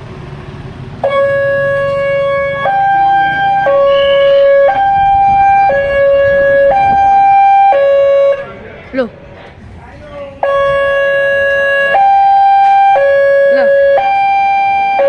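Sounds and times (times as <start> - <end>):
two-tone electronic warning siren: 1.0 - 9.0, 10.4 - 15.0.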